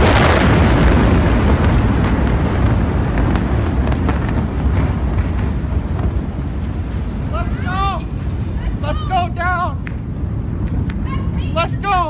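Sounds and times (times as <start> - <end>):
debris crackling and popping: 0.0 - 11.0
explosion rumble and roar: 0.0 - 12.0.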